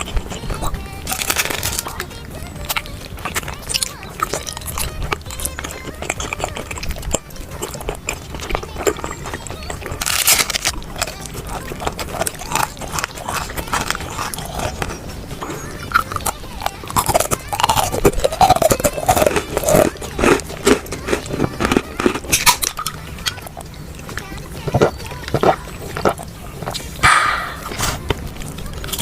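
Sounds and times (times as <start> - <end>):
crunchy bite: 0.0 - 2.0, 2.6 - 23.6, 24.6 - 29.0
wet chewing and lip smacks: 0.0 - 29.0.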